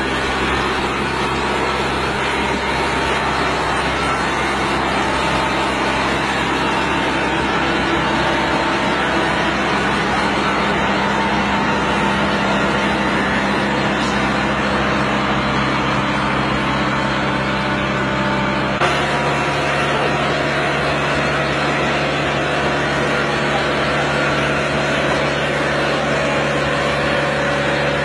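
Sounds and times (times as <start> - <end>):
harvesting machine engine: 0.0 - 28.0
lifting belts and conveyor: 0.0 - 28.0.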